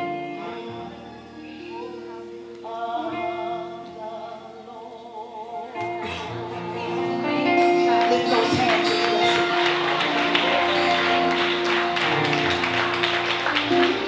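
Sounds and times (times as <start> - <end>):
person singing with vibrato: 0.0 - 12.3
instrumental backing: 0.0 - 14.0.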